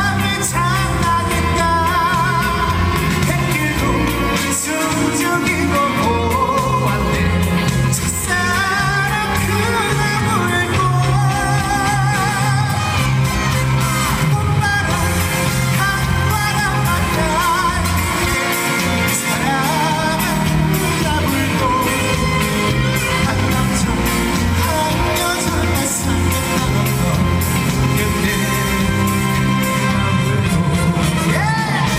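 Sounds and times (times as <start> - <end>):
loud backing track: 0.0 - 31.9
man singing with vibrato: 0.0 - 31.9.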